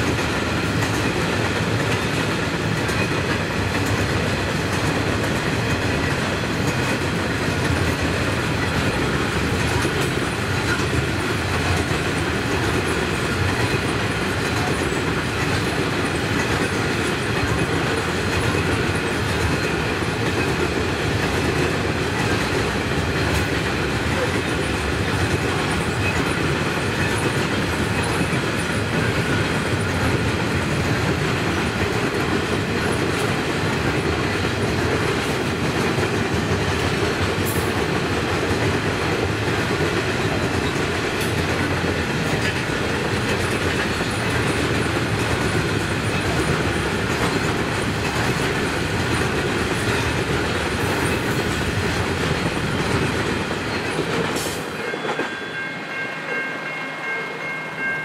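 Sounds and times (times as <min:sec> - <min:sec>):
freight train wagons rolling past: 0:00.0 - 0:58.0.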